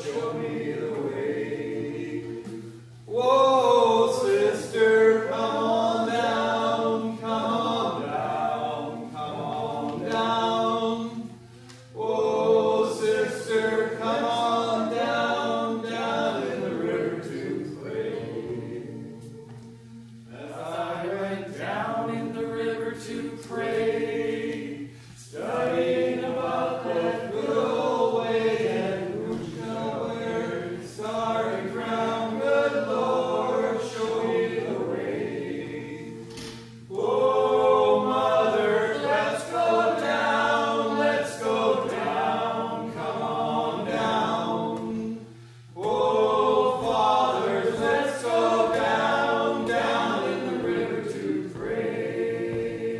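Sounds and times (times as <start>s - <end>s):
group singing a cappella: 0.0s - 52.9s.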